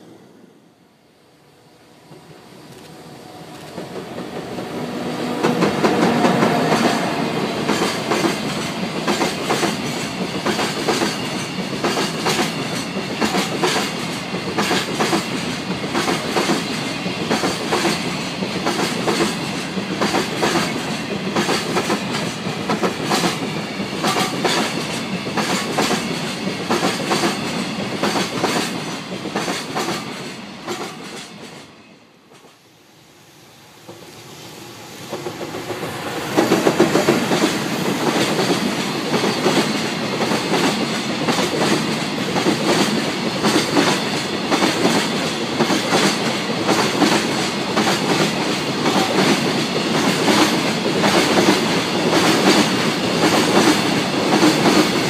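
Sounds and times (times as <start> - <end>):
electric locomotive passing: 0.0 - 55.0.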